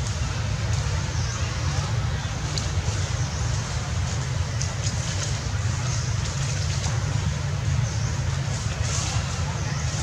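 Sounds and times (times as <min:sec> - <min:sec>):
constant hiss: 0:00.0 - 0:10.0.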